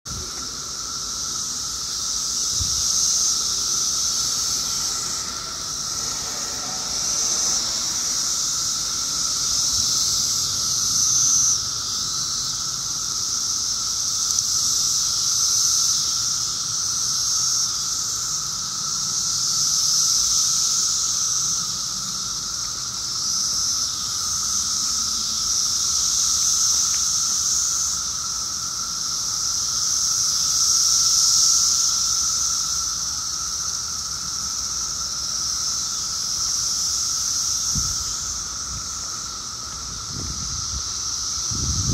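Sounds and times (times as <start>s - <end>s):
cicadas high hissing buzz: 0.0s - 41.9s
low droning cicada hum: 0.0s - 41.9s.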